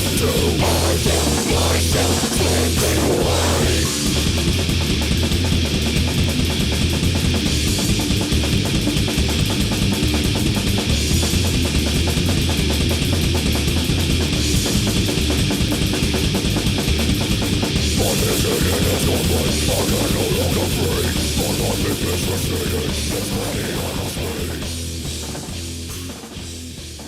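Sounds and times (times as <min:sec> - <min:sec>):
distorted guitars: 0:00.0 - 0:27.0
fast heavy metal drumming: 0:00.0 - 0:27.0.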